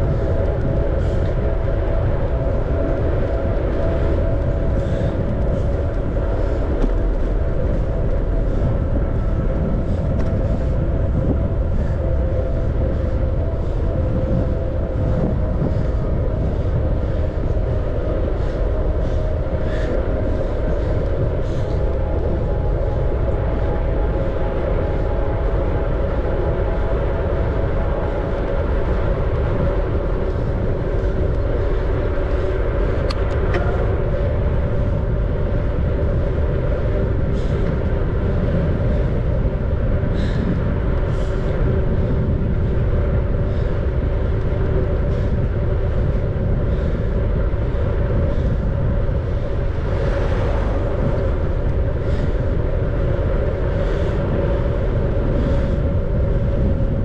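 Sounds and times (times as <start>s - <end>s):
bicycle rolling: 0.0s - 57.0s.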